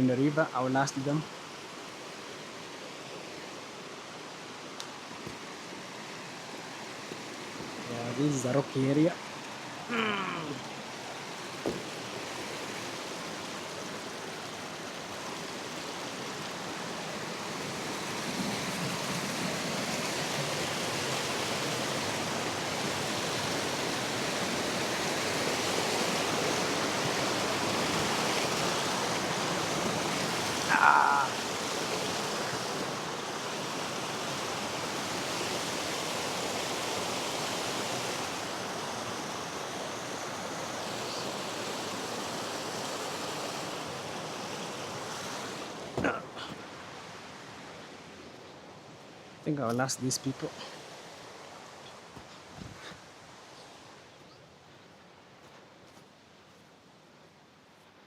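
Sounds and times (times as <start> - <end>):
river water rushing over rocks: 0.4 - 54.1.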